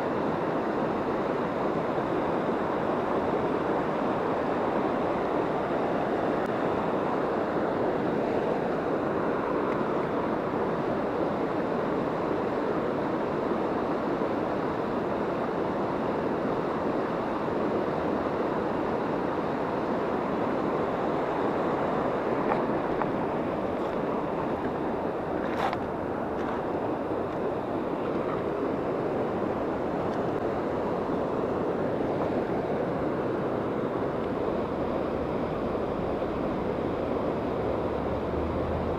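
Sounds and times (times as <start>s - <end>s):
fast river rushing: 0.0s - 38.9s.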